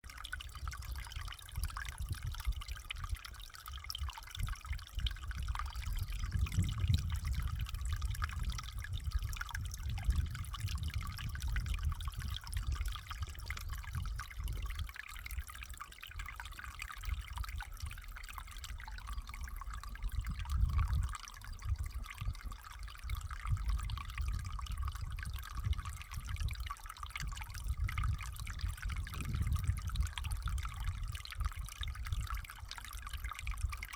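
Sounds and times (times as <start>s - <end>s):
water trickling and dripping: 0.0s - 33.9s.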